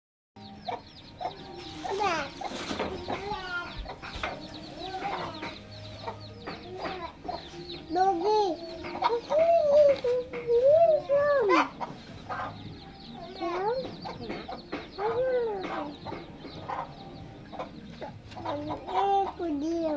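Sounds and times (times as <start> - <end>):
animal calls: 0.4 - 19.9.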